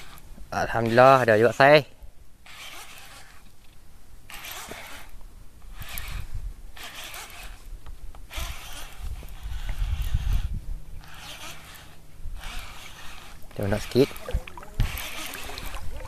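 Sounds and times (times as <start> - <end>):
fishing reel whirring: 0.0 - 16.0.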